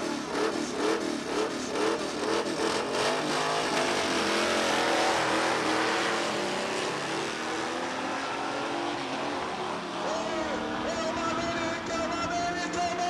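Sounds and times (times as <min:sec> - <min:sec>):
drag race cars accelerating: 0:00.0 - 0:13.0.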